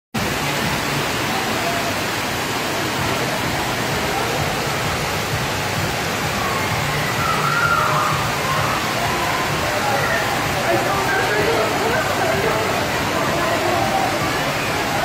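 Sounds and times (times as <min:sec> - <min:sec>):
floodwater rushing: 0:00.2 - 0:15.0
heavy rain: 0:00.2 - 0:15.0.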